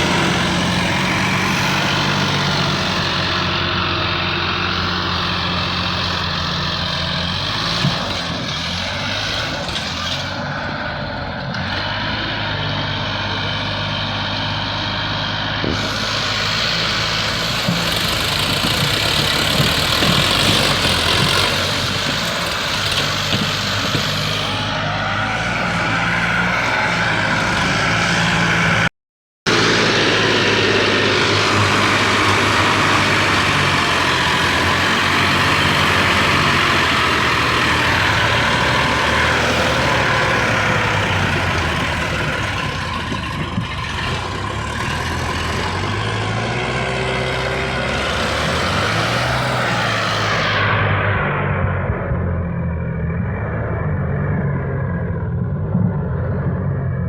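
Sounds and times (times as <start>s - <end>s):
tractor engines under heavy load: 0.0s - 28.9s, 29.5s - 57.0s.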